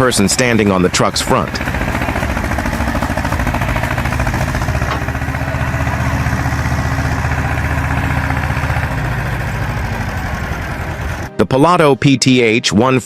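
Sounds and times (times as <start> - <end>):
tractor diesel engine running: 0.0 - 11.4.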